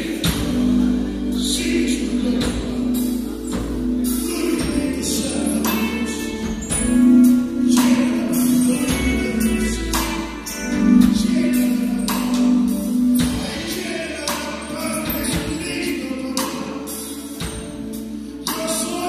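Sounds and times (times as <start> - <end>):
drum kit beat: 0.0 - 19.0
electronic keyboard chords: 0.0 - 19.0.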